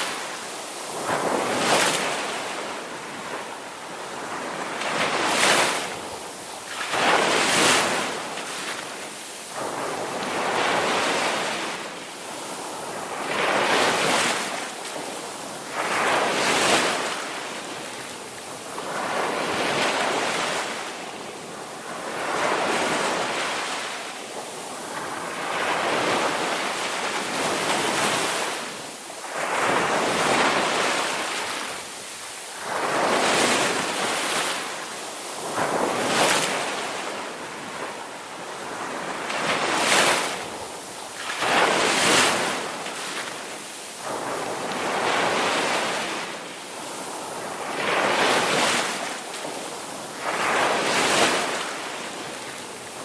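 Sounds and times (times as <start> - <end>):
ocean waves breaking on shore: 0.0 - 53.0.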